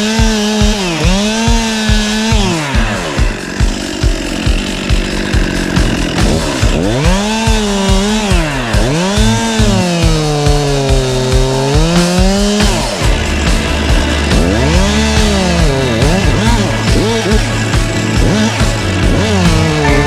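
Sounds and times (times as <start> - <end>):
chainsaw cutting wood: 0.0 - 20.0
music with steady beat: 0.6 - 20.0.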